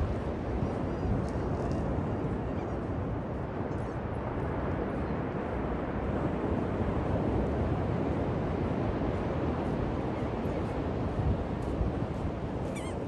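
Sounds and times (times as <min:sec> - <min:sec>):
ocean surf washing onto beach: 0:00.0 - 0:12.7.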